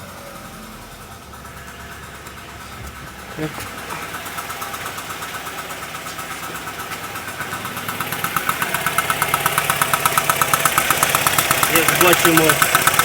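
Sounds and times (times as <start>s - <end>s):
engine ticking clatter: 0.0s - 13.0s.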